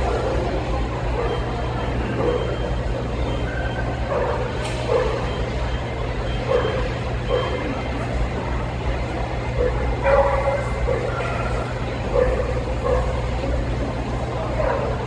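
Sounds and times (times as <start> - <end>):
dogs barking: 0.0 - 8.3, 9.4 - 15.0
low hum of indoor hall: 0.0 - 15.0
murmur of voices: 0.0 - 15.0.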